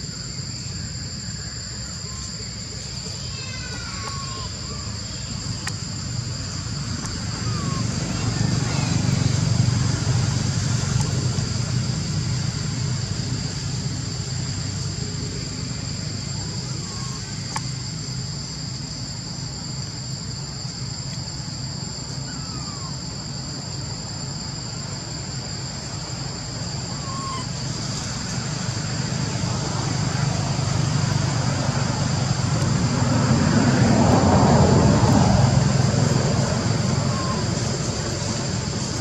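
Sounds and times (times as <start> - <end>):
high-pitched insect drone: 0.0 - 39.0.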